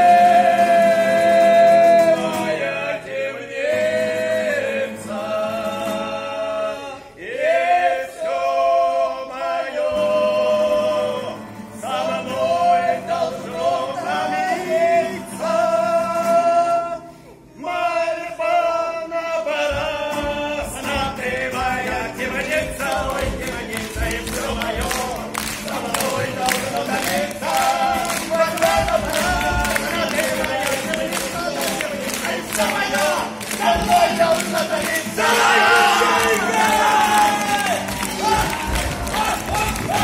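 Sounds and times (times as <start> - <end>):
men singing together: 0.0 - 16.9, 17.6 - 40.0
acoustic guitar: 0.0 - 40.0.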